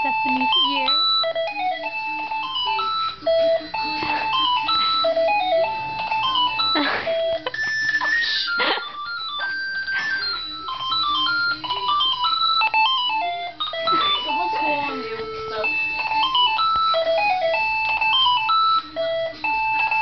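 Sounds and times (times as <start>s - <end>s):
electronic phone ringtone: 0.0s - 20.0s.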